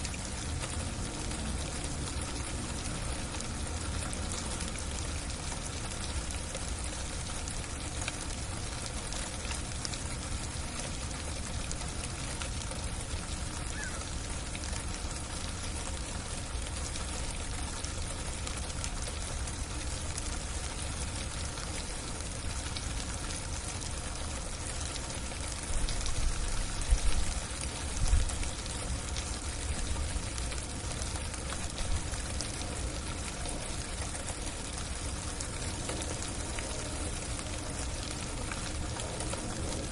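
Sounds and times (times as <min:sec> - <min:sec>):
freezing rain on a roof: 0:00.0 - 0:39.9.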